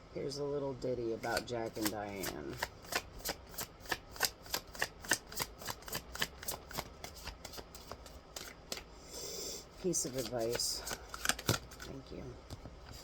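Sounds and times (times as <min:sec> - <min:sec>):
cards being shuffled: 0:01.2 - 0:08.9, 0:09.8 - 0:13.0.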